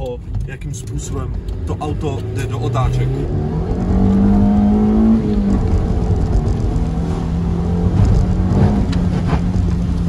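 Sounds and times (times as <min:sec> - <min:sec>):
car engine pulling: 0:00.0 - 0:10.0.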